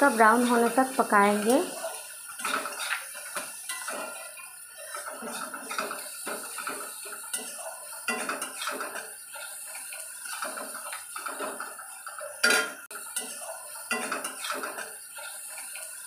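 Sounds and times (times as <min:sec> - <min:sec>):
onions frying in oil: 0:00.0 - 0:16.0
metal spatula scraping a pan: 0:00.1 - 0:16.0.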